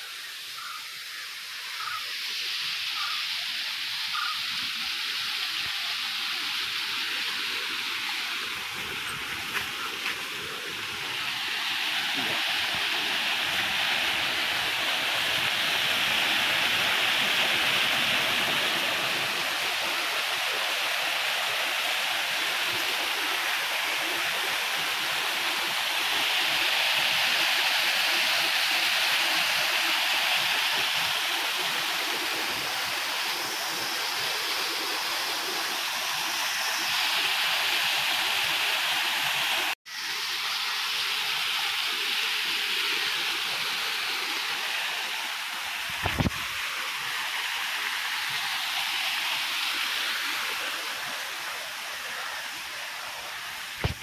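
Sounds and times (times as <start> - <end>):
waterfall rushing into a pool: 0.0 - 54.0.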